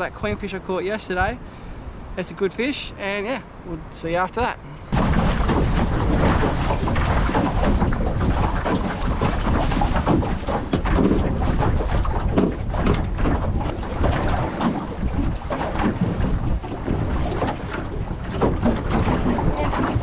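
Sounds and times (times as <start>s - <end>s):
water slapping boat hull: 0.0s - 20.0s
wind buffeting microphone: 3.4s - 20.0s.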